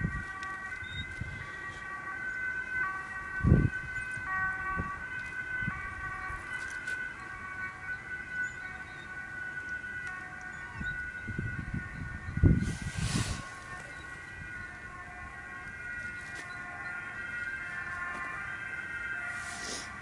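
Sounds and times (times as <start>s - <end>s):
high siren-like tones: 0.0s - 20.0s.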